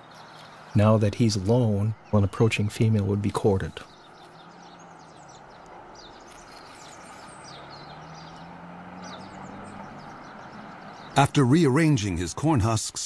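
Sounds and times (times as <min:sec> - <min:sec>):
faint bird chirps: 0:00.0 - 0:11.4.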